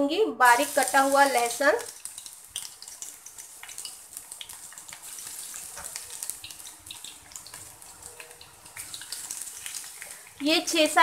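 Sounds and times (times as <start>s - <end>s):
garlic sizzling in oil: 0.4s - 11.0s.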